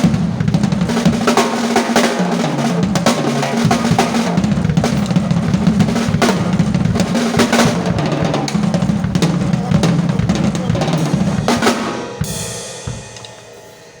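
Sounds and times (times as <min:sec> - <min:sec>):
cymbal crash ringing: 0:00.0 - 0:14.0
drum kit played hard: 0:00.0 - 0:14.0.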